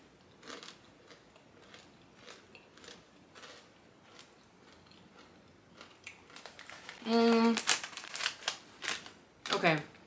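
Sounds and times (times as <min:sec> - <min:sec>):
person chewing crunchy snack: 0:00.3 - 0:08.4.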